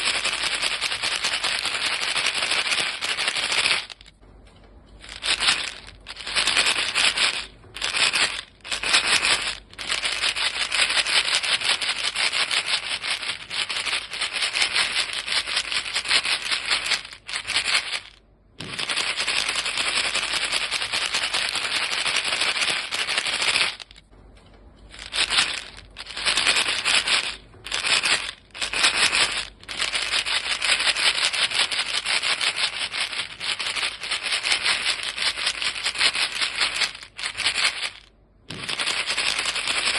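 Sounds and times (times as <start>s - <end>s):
gum box rattling: 0.0s - 4.2s, 5.0s - 24.1s, 24.9s - 39.9s.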